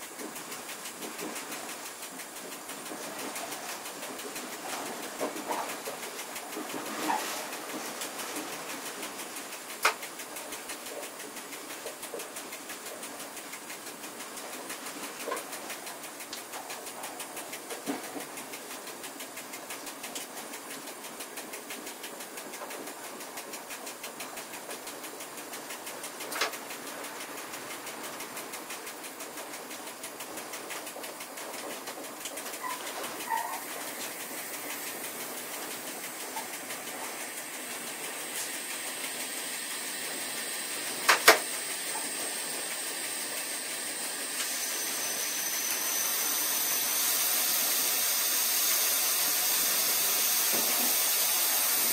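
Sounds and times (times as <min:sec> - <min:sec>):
train running noise in cab: 0:00.0 - 0:51.9.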